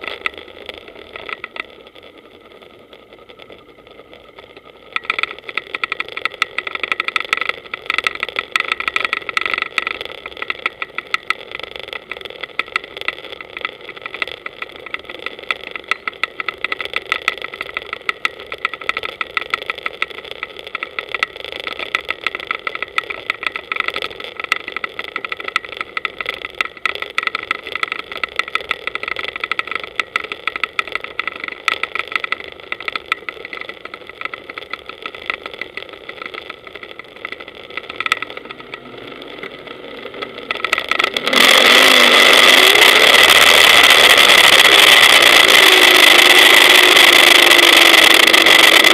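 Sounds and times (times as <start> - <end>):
fast ticking rattle: 0.0 - 48.9.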